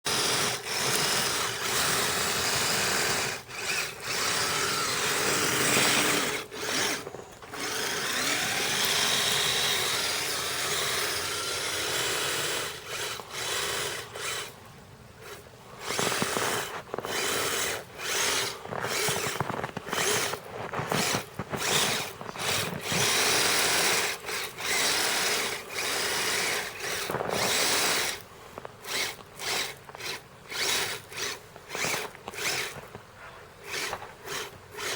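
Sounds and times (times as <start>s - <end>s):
electric motors whining: 0.1s - 34.9s.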